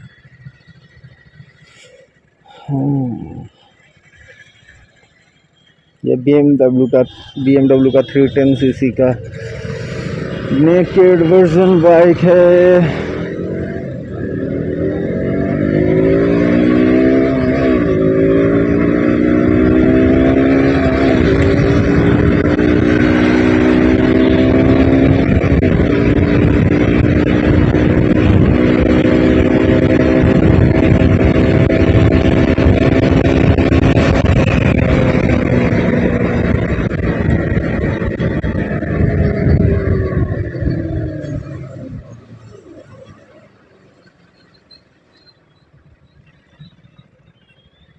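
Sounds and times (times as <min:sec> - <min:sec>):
motorcycle engine accelerating: 0:00.0 - 0:05.9, 0:07.2 - 0:47.9
wind and road rush: 0:00.0 - 0:47.9.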